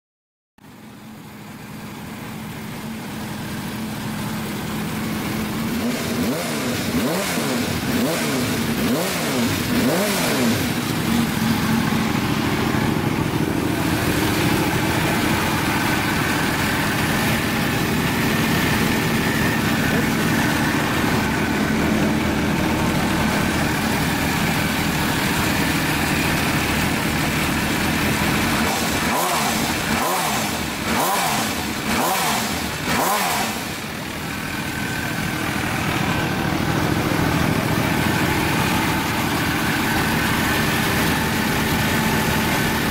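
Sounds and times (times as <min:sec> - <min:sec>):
motorcycle engine running: 0:00.6 - 0:42.9.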